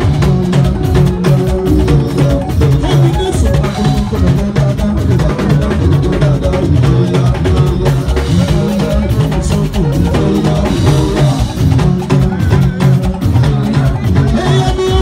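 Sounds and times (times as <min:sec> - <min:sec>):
heavy bass: 0:00.0 - 0:15.0
loud band music: 0:00.0 - 0:15.0
steady drum beat: 0:00.0 - 0:15.0.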